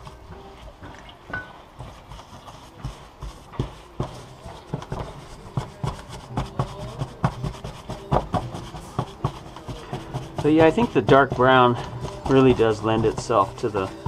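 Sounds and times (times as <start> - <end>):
gloved hands rubbing: 0.0 - 14.0.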